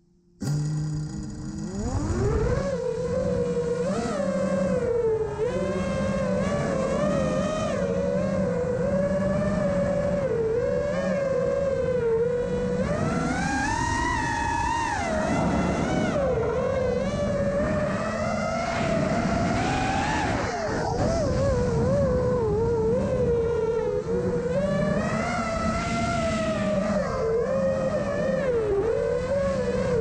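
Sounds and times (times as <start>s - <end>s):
model airplane motor whine: 0.0s - 30.0s.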